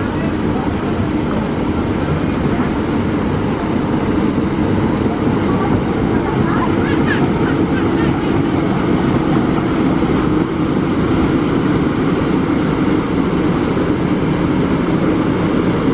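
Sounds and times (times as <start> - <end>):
concrete mixer truck engine: 0.0 - 15.9
excavator diesel engine running: 0.0 - 15.9.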